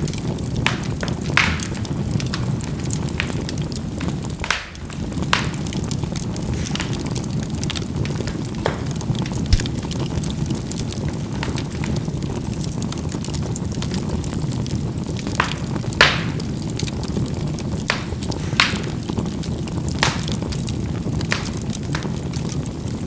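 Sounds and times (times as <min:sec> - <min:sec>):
charcoal popping: 0:00.0 - 0:23.0
fire rumbling: 0:00.0 - 0:23.0.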